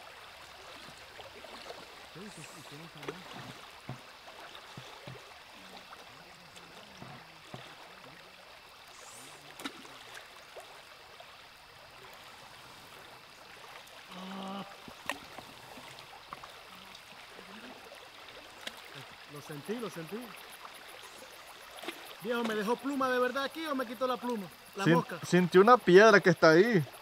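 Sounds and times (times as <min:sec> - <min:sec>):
river water running: 0:00.0 - 0:27.0.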